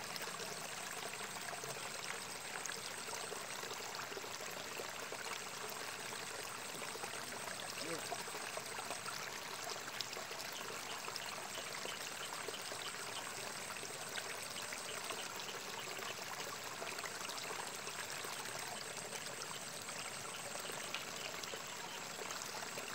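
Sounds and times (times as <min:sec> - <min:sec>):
water trickling in a ditch: 0:00.0 - 0:22.9.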